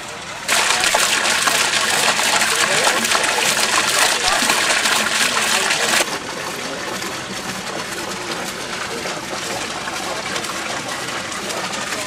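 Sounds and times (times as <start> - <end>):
water jets spraying on turbine wheel: 0.0 - 12.0.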